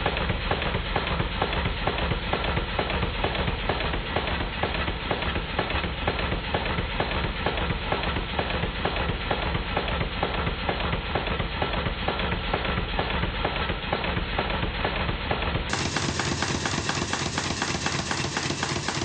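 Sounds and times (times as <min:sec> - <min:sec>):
model steam engine clattering knocks: 0:00.0 - 0:19.0.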